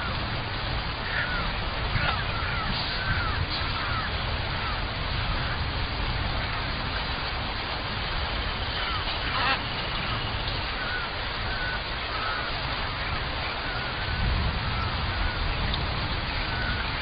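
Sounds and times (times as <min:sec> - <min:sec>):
birds giving gliding calls: 0:00.0 - 0:06.8, 0:08.4 - 0:17.0
steady hiss: 0:00.0 - 0:17.0.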